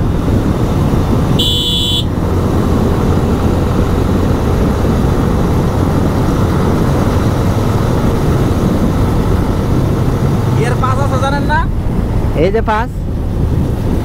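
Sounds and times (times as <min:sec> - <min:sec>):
motorcycle engine: 0:00.0 - 0:12.4
wind buffeting microphone: 0:00.0 - 0:14.0.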